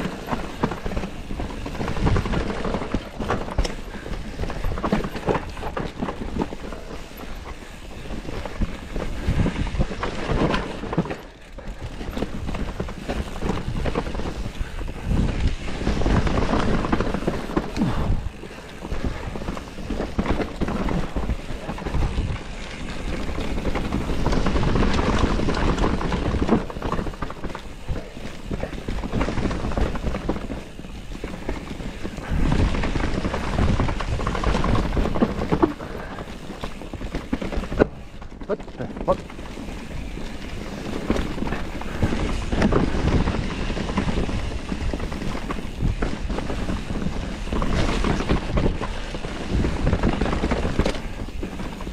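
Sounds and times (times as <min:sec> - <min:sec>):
bike knocking and rattling: 0:00.0 - 0:51.9
bike tyres on soil: 0:00.0 - 0:51.9
wind noise on microphone: 0:00.0 - 0:51.9.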